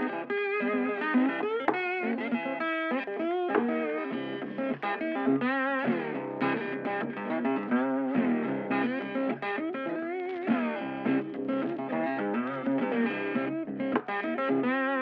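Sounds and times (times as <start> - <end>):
electric guitar with bent notes: 0.0 - 15.0.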